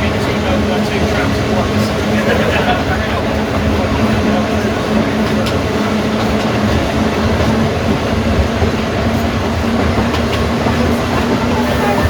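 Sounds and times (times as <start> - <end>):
tram rumbling along track: 0.0 - 12.0
wheels clicking over rail joints: 0.0 - 12.0.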